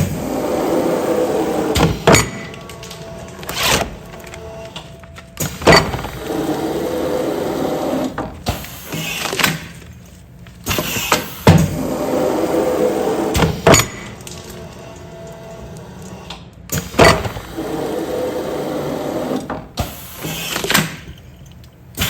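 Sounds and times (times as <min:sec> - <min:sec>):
machine running hum: 0:00.0 - 0:20.3.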